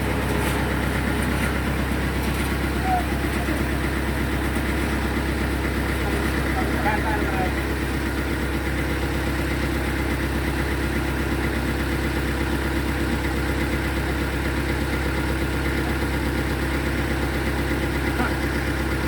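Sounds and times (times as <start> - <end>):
sawmill machinery humming: 0.0 - 19.0.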